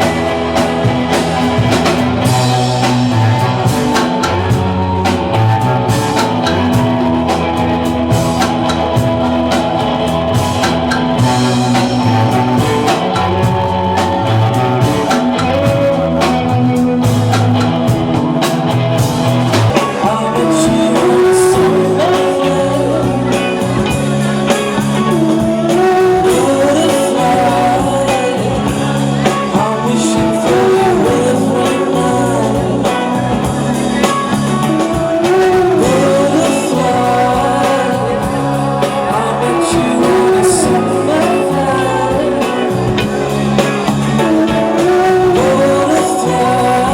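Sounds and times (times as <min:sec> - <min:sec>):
rock band music: 0:00.0 - 0:46.9
sung lead vocal: 0:00.0 - 0:46.9.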